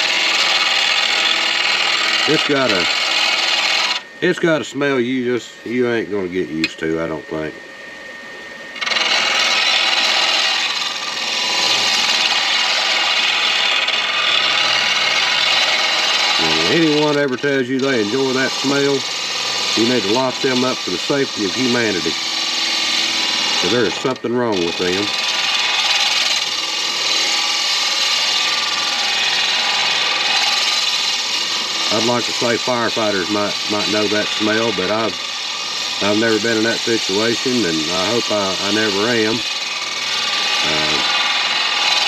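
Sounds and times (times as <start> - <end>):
lathe tool scraping: 0.0 - 4.1, 8.8 - 42.0.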